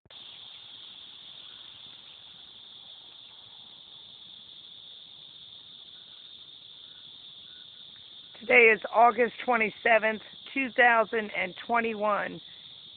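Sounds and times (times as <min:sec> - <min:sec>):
cicadas buzzing: 0:00.1 - 0:12.9.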